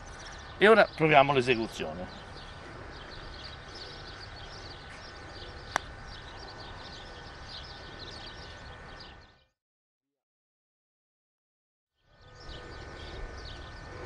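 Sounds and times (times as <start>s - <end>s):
birds chirping: 0.0s - 9.5s, 12.0s - 14.0s.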